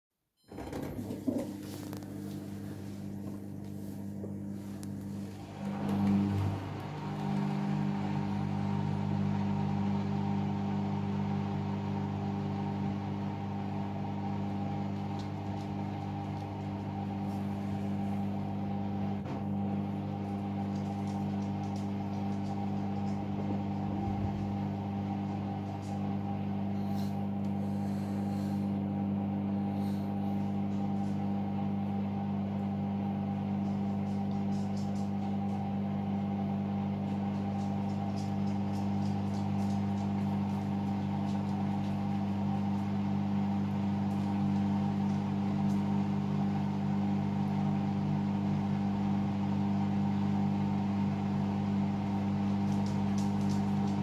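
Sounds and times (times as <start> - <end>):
washing machine drain pump humming: 0.4 - 54.0.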